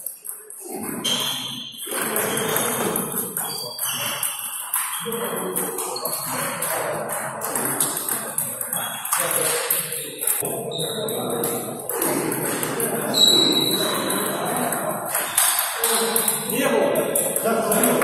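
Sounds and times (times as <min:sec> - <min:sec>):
voices talking: 0:00.0 - 0:18.0
table tennis balls clicking: 0:00.1 - 0:18.0.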